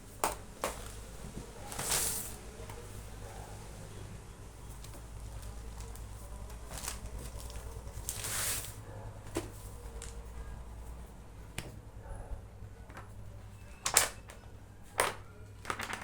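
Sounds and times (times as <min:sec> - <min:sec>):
paper and plastic rustling: 0:00.2 - 0:10.4, 0:13.0 - 0:16.0.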